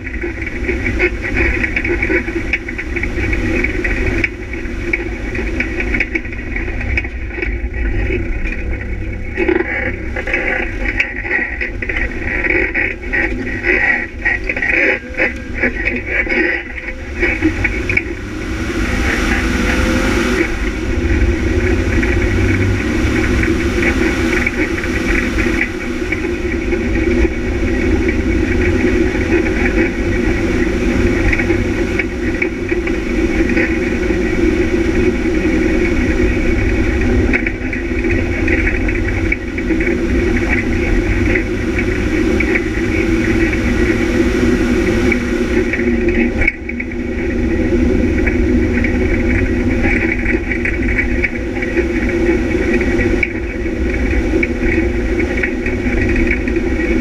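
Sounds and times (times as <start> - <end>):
rally car engine running: 0.0 - 57.0
wind and road noise: 0.0 - 57.0.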